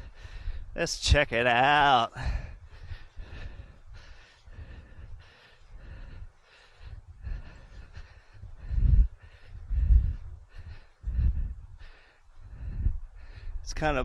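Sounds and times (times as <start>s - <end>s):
person breathing hard: 0.0s - 0.8s, 1.9s - 13.7s
wind buffeting microphone: 2.2s - 14.0s.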